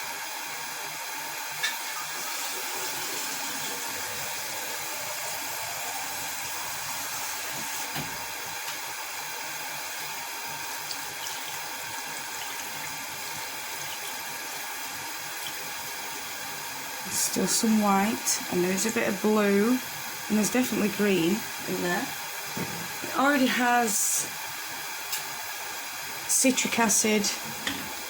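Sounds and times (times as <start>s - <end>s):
electric kettle hissing: 0.0s - 28.0s.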